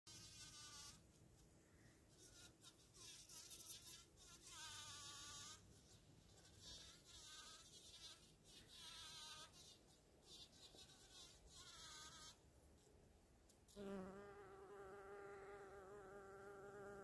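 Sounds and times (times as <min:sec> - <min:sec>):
bumble bee buzzing: 0:00.1 - 0:01.0, 0:02.2 - 0:09.7, 0:10.3 - 0:12.4, 0:13.7 - 0:17.0.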